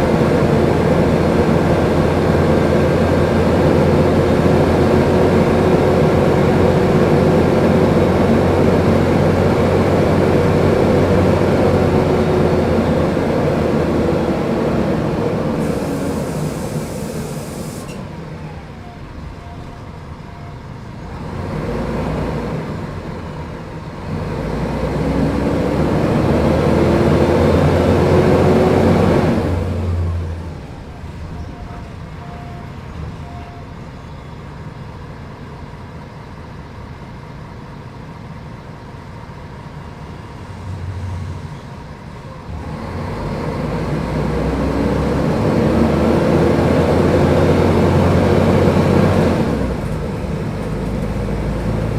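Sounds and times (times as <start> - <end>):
bus diesel engine accelerating: 0.0 - 51.9.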